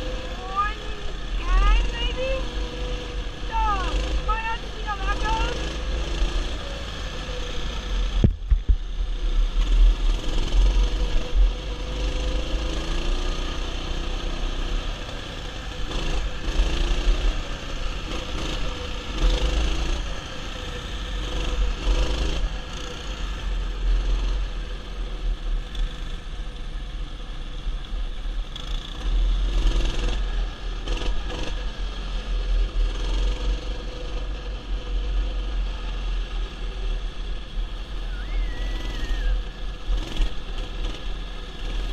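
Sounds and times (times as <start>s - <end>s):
mini bike engine running: 0.0s - 41.9s.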